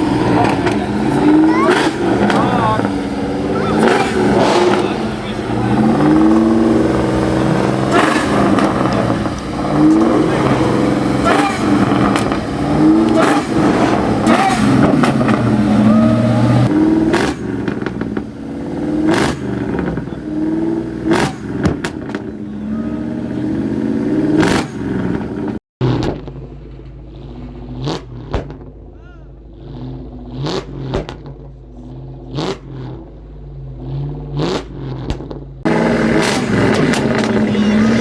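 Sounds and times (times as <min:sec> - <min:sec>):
car engines revving: 0:00.0 - 0:38.0
low engine hum: 0:00.0 - 0:38.0.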